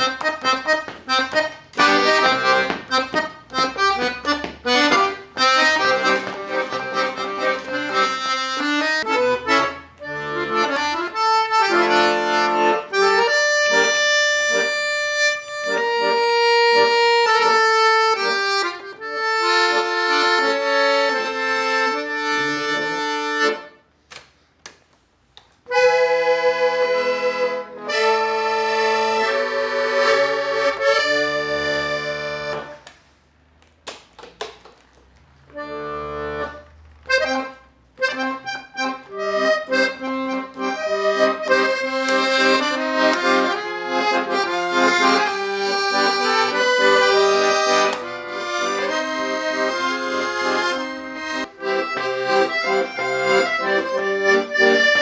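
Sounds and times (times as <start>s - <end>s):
accordion playing: 0.0s - 23.9s, 25.6s - 33.4s, 35.3s - 55.0s.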